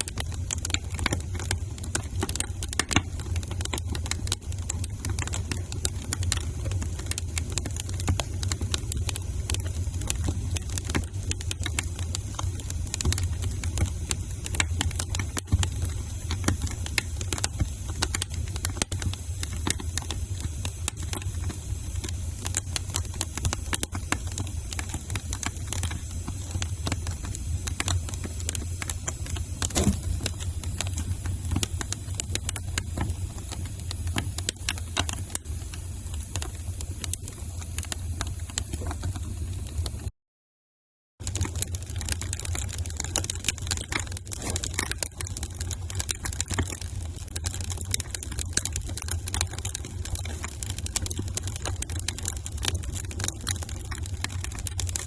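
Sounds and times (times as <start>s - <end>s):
wood fire crackling: 0.0s - 40.1s, 41.2s - 55.0s.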